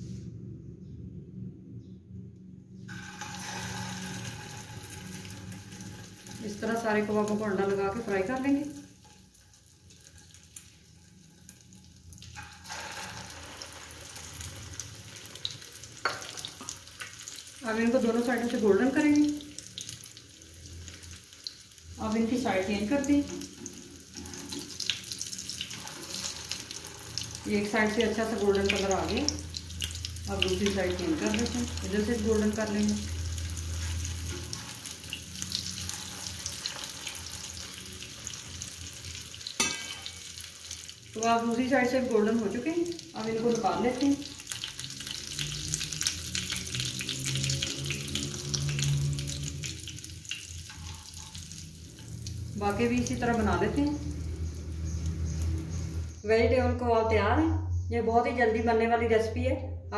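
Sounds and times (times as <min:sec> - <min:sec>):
cutlets sizzling in oil: 0:02.9 - 0:56.2.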